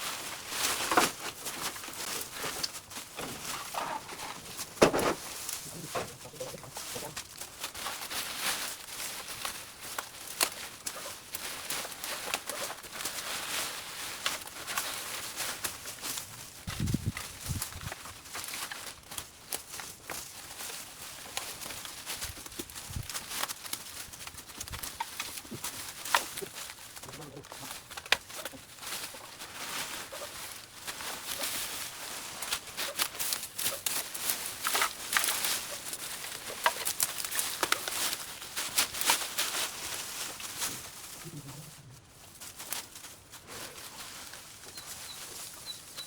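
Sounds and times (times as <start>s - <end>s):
brush crackling and snapping: 0.0s - 46.0s.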